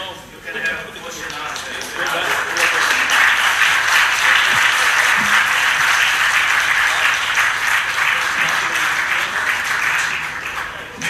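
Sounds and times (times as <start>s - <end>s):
audience applauding: 1.0s - 11.0s.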